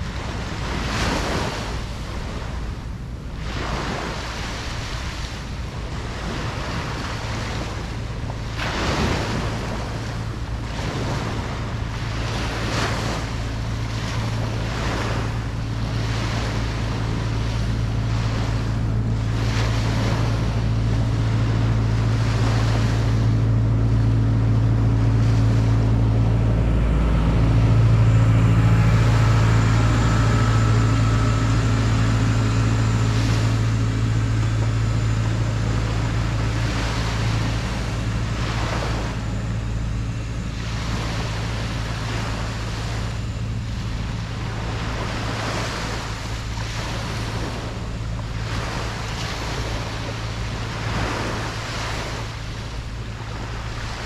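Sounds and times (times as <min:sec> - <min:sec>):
low motor drone: 0:00.0 - 0:54.0
ocean waves washing ashore: 0:00.0 - 0:54.0.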